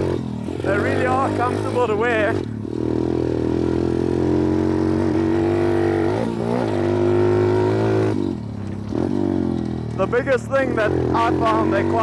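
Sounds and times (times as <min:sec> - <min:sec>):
pit bike engine under throttle: 0:00.0 - 0:12.0.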